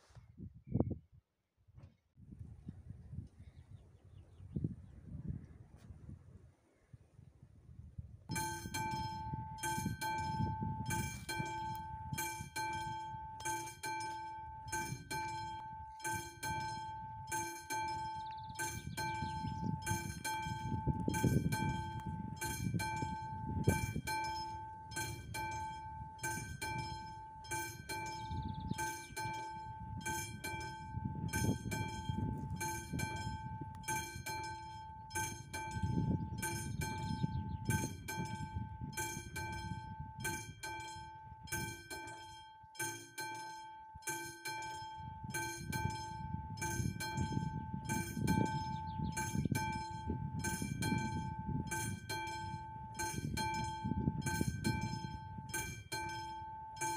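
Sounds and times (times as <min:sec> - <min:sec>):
level crossing warning bell ringing: 0:08.3 - 0:56.9.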